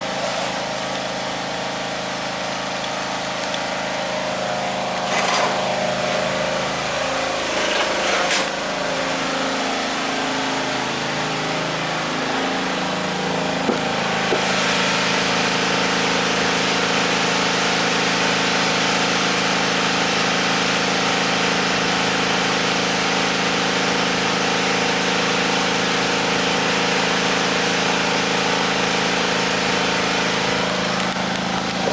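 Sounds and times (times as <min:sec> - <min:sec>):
small engine running: 0:00.0 - 0:31.9.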